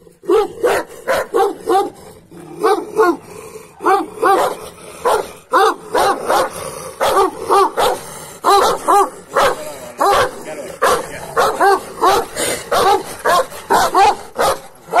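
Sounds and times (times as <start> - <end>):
large dog barking: 0.0 - 15.0.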